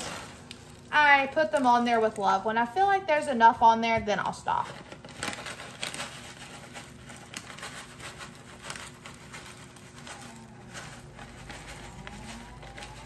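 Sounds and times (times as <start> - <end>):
bag crinkling: 0.0 - 2.5, 4.4 - 13.0.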